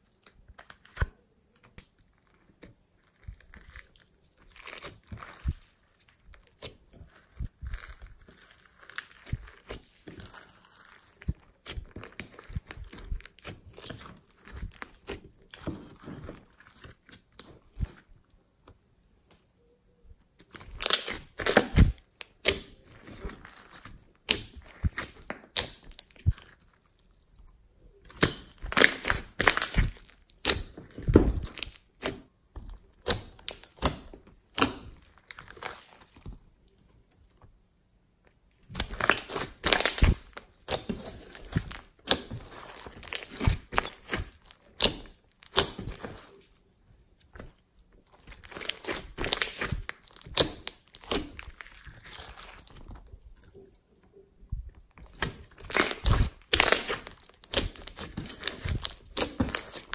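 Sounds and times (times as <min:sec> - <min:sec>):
slime crackling and popping: 0:00.1 - 0:18.1, 0:20.4 - 0:26.9, 0:27.9 - 0:36.4, 0:38.6 - 0:46.2, 0:48.1 - 0:53.6, 0:54.9 - 0:59.9.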